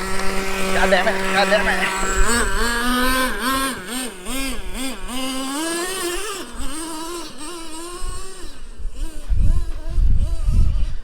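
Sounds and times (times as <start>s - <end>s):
small two-stroke engine revving: 0.0s - 11.0s.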